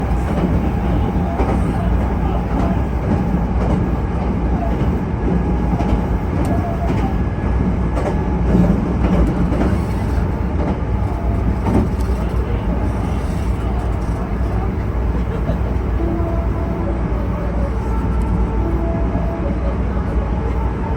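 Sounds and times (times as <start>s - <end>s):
loud train rumble: 0.0s - 20.9s.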